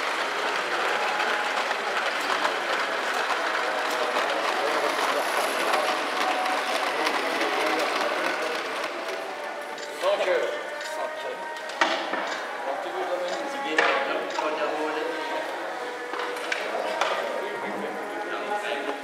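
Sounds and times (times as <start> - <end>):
model train whirring: 0.0 - 19.0
wheels clicking over rail joints: 0.0 - 19.0.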